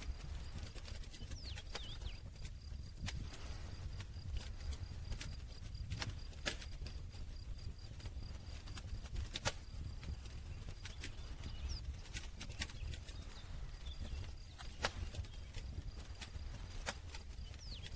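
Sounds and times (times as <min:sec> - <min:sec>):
campfire wood crackling and popping: 0:00.0 - 0:17.9
low fire rumble: 0:00.0 - 0:17.9.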